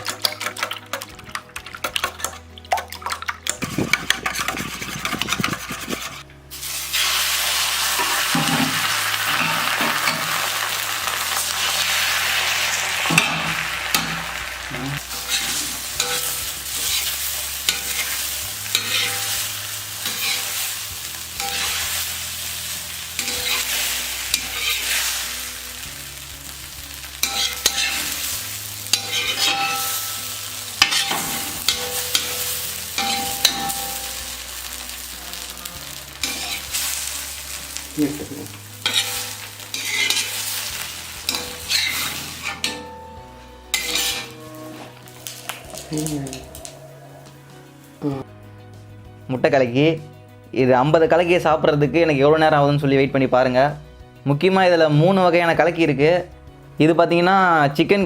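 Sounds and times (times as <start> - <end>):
metal spatula scraping pan: 0.0 - 47.7
egg sizzling in a pan: 0.0 - 48.2.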